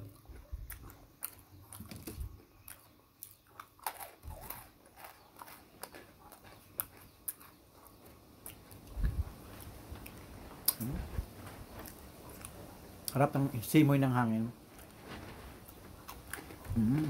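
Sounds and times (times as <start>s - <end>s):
person chewing crunchy cookies: 0.0s - 13.2s, 15.6s - 17.0s.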